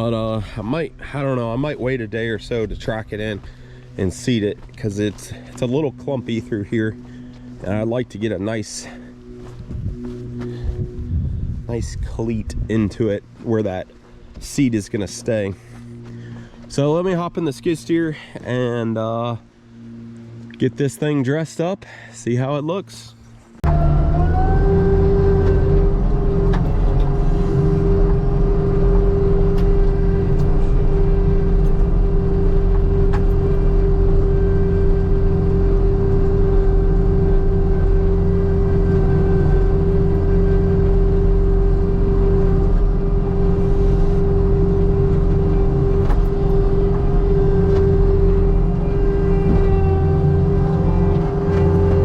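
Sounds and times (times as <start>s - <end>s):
skid steer engine running: 0.0s - 21.4s, 23.2s - 52.0s.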